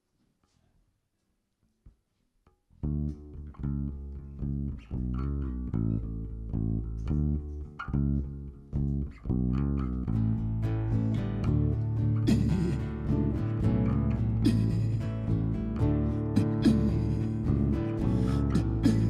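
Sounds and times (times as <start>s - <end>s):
bass guitar playing: 2.8s - 19.0s.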